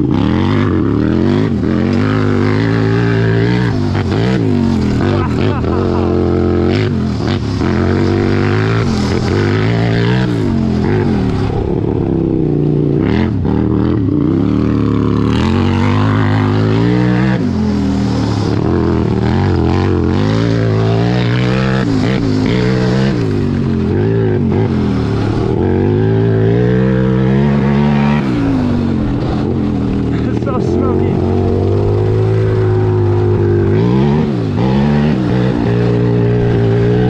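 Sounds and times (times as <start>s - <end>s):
electric dirt bike whine: 0.0s - 37.0s.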